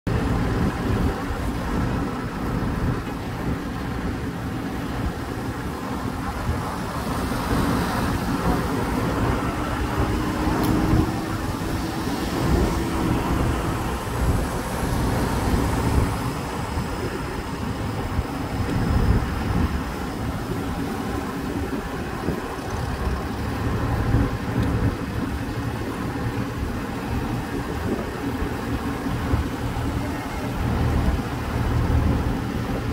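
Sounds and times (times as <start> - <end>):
low rumble of engines: 0.1 - 32.9
road traffic: 0.1 - 32.9.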